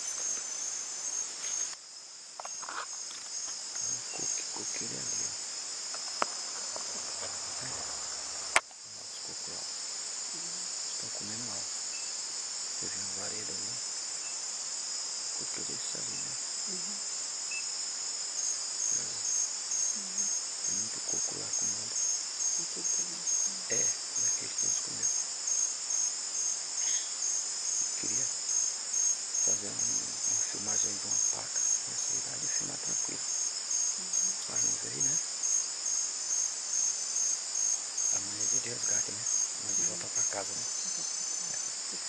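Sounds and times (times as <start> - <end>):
cricket chirping: 0.0 - 42.0
insects trilling: 0.0 - 42.0.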